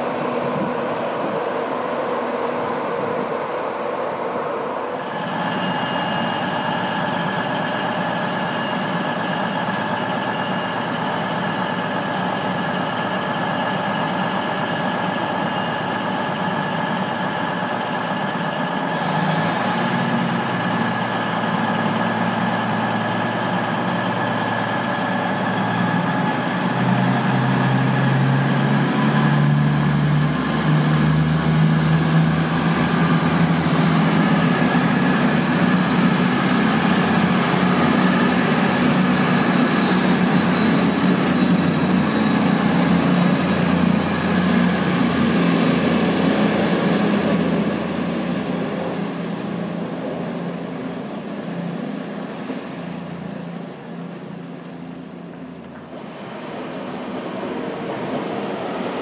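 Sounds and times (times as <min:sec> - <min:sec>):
diesel train engines whining: 0:00.0 - 0:59.0.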